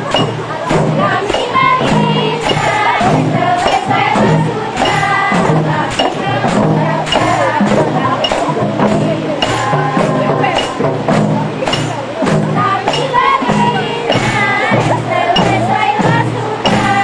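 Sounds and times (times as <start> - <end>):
frame drums beating: 0.0 - 17.0
group singing: 0.0 - 17.0.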